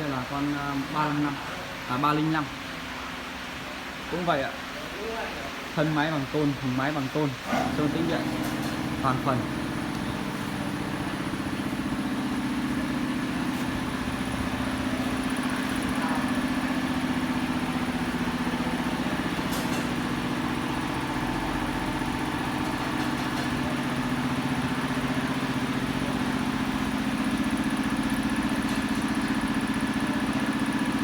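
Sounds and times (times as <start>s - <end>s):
steady machine hum: 5.9s - 31.0s.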